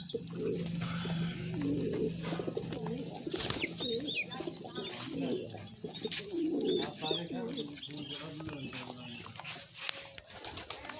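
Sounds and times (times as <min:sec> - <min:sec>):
high bird chirps: 0:00.0 - 0:09.4
pigeons cooing: 0:00.0 - 0:10.9.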